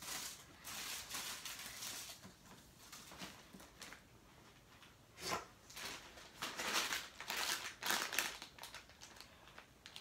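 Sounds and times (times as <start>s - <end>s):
plastic wrappers crinkling: 0.0s - 5.0s, 5.6s - 10.0s.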